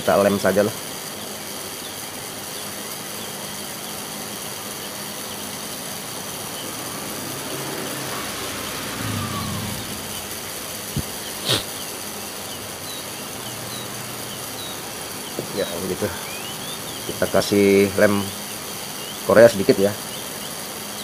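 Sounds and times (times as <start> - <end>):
machine hum with faint hiss: 0.0 - 21.0.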